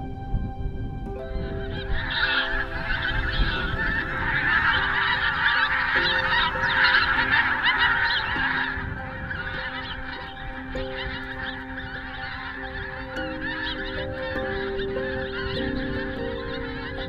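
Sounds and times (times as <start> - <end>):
flock of geese honking: 1.2 - 17.0.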